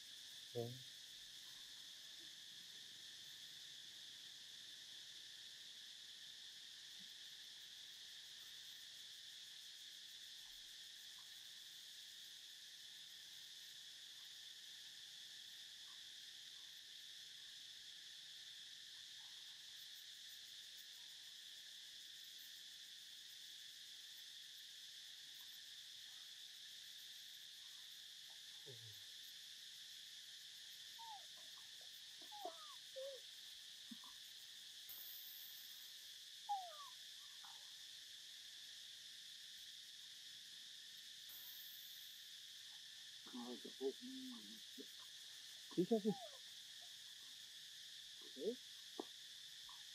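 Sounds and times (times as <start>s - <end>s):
high drone of insects: 0.0s - 49.9s.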